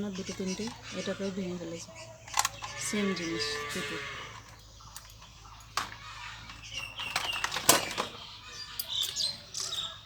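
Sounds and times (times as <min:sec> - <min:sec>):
plastic toys clattering: 0:00.0 - 0:10.0.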